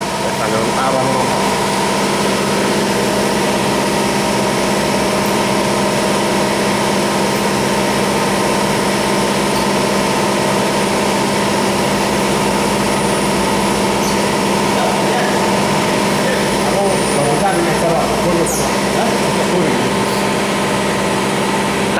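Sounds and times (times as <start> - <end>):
machine hum with steady tones: 0.0 - 21.9.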